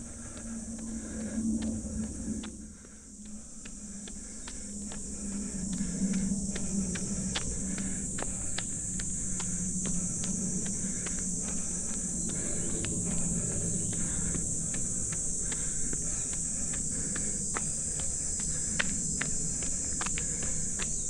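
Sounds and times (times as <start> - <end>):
footsteps of runner on trail: 0.0 - 21.0
insects droning: 0.0 - 21.0.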